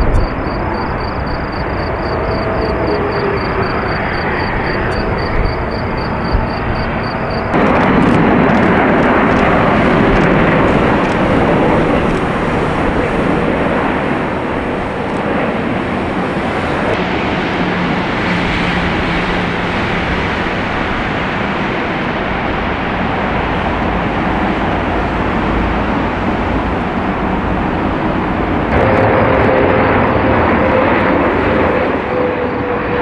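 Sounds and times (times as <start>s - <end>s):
jet engine roar: 0.0s - 33.0s.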